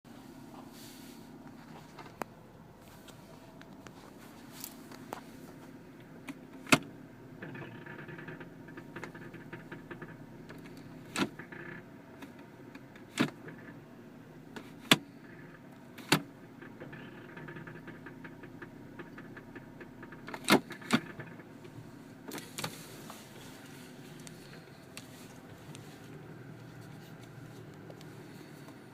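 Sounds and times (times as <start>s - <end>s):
car engine running: 0.1s - 28.9s.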